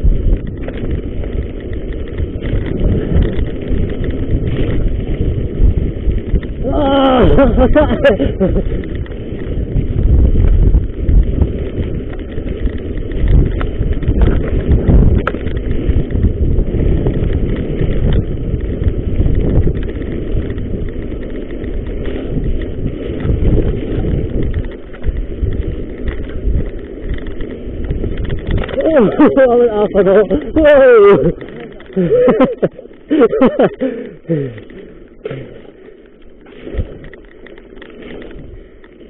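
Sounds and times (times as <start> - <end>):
bike rattling: 0.0 - 39.0
bike tyres rolling on dirt: 0.0 - 39.0
wind rumbling on microphone: 0.0 - 39.0.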